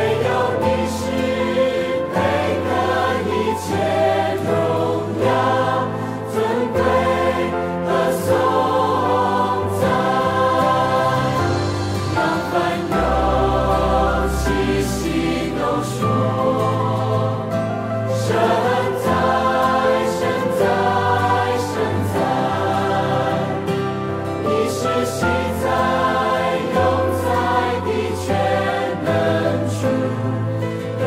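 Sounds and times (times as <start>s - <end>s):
instrumental accompaniment: 0.0s - 29.4s
choir singing a hymn: 0.0s - 31.0s.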